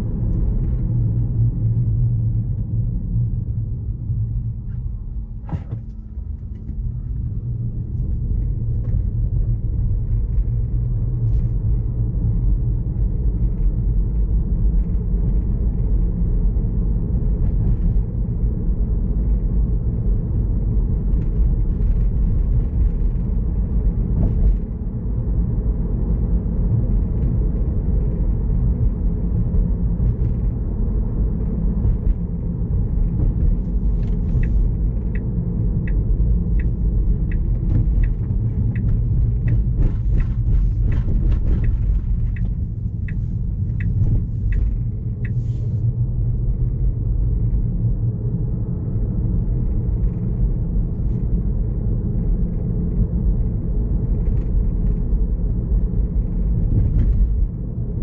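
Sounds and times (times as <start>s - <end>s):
road and tyre rumble in car: 0.0s - 58.0s.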